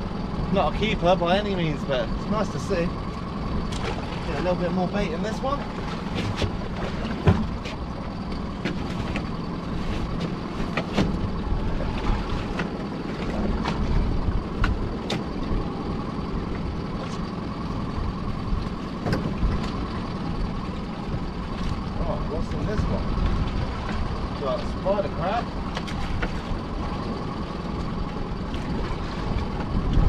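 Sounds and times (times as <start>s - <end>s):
boat engine running: 0.0s - 30.0s
wind and water noise: 0.0s - 30.0s.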